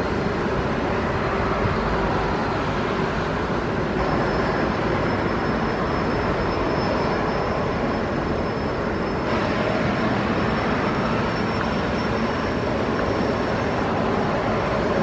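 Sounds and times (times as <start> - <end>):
jet turbine running with whine: 0.0 - 15.0.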